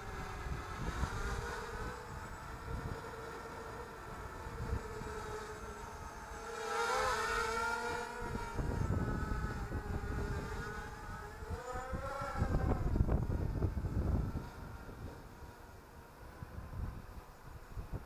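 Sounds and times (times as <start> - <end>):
wind buffeting microphone: 0.0 - 6.2, 7.1 - 18.0
quadcopter motors buzzing: 0.0 - 18.0.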